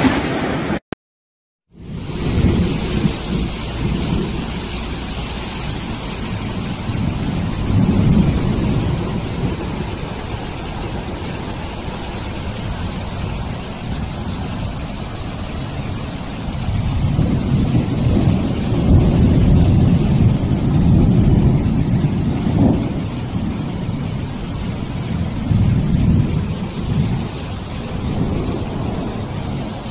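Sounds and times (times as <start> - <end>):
heavy rain: 0.0 - 0.8, 1.7 - 29.9.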